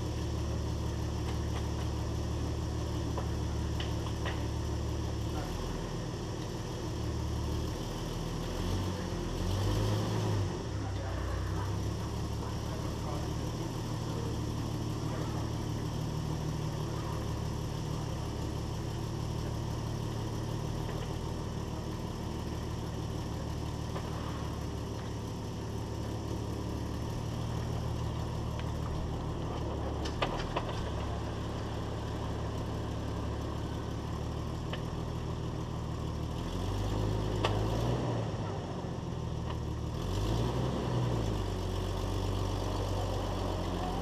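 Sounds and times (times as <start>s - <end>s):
engine running at low speed: 0.0s - 44.0s.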